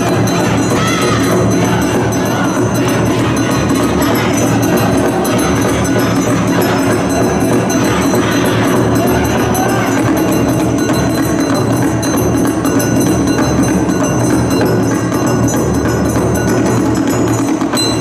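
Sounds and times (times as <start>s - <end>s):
dance music with driving percussion: 0.0s - 18.0s.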